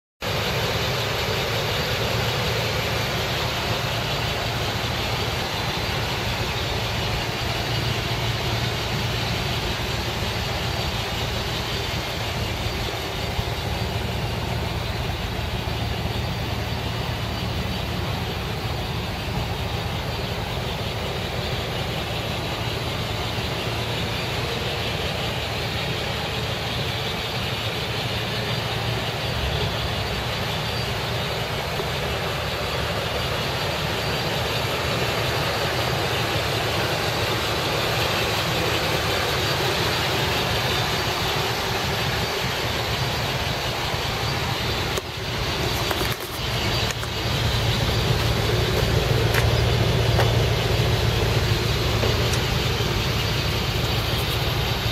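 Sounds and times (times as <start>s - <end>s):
car engine idling: 0.2s - 54.9s.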